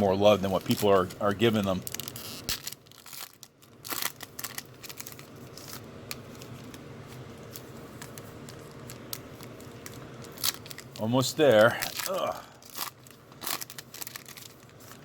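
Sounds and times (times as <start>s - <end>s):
plastic wrapper crinkling: 0.1s - 15.0s.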